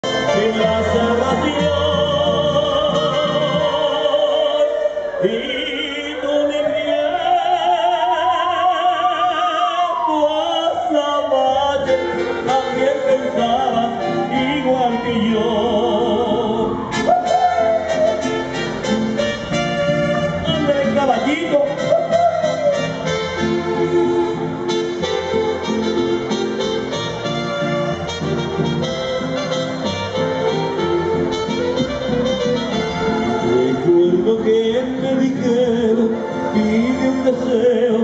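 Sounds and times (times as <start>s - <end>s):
man singing with vibrato: 0.0s - 38.0s
mariachi accompaniment: 0.0s - 38.0s.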